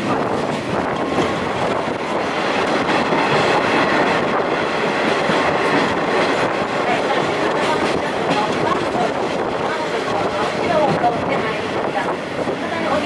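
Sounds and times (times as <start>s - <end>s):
train wheels on rails: 0.0s - 13.0s
wind rushing past microphone: 0.0s - 13.0s.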